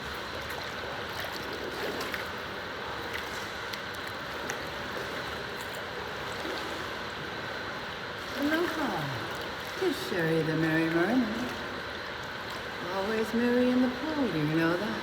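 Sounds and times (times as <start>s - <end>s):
small splashes and drips: 0.0s - 14.0s
pool water lapping: 0.0s - 15.0s.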